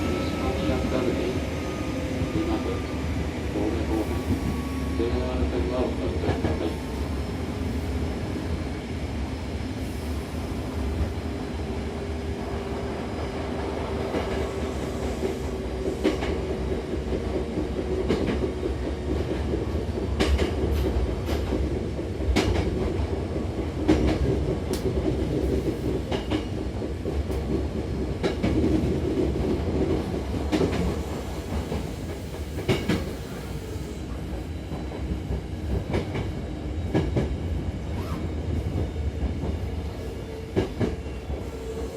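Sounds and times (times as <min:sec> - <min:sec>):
train rumble with humming tone: 0:00.0 - 0:41.9.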